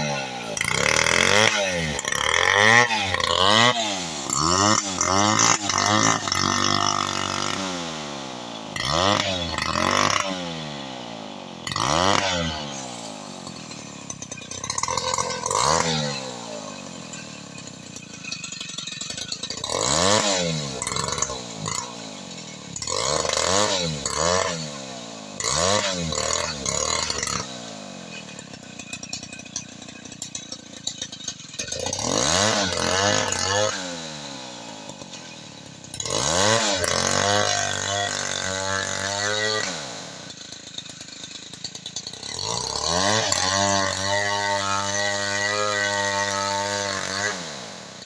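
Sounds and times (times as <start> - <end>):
chainsaw engine revving: 0.0 - 48.0.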